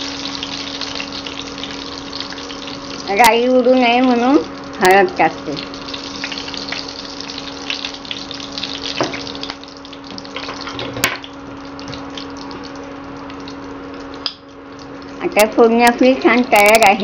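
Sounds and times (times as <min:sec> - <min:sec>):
cooktop hum: 0:00.0 - 0:17.0
hot oil sizzling: 0:00.0 - 0:17.0.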